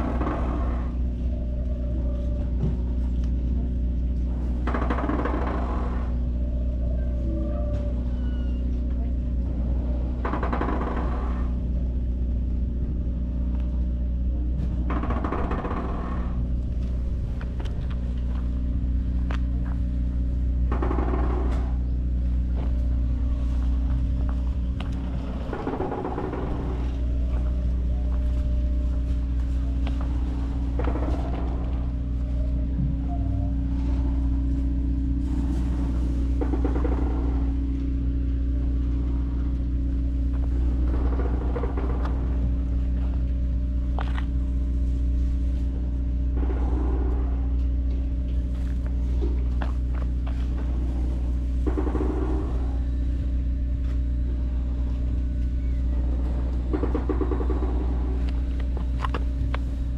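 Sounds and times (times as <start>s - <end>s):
large engine idling: 0.0s - 59.9s.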